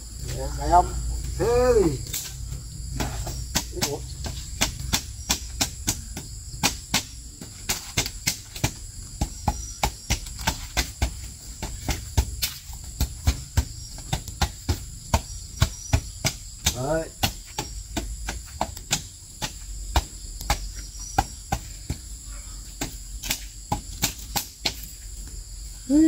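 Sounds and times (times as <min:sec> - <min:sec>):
crickets buzzing: 0:00.0 - 0:26.0
sharp knocks on bamboo wall: 0:02.9 - 0:22.1, 0:22.8 - 0:24.9.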